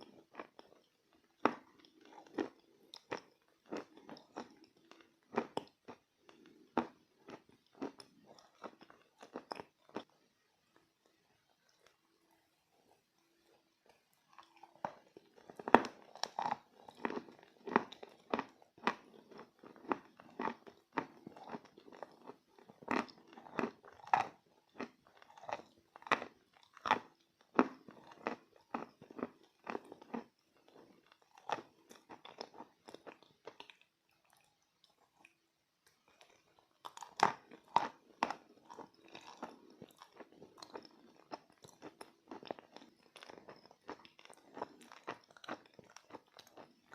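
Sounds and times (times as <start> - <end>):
crunchy chewing and biting: 0.0 - 10.2, 13.4 - 46.9.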